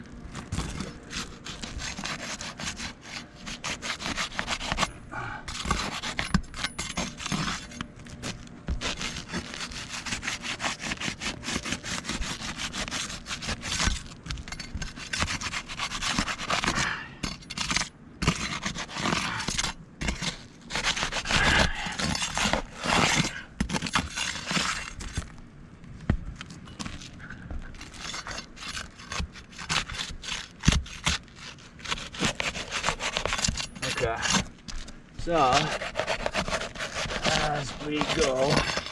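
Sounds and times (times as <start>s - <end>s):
scraping and rubbing: 0.0s - 38.9s.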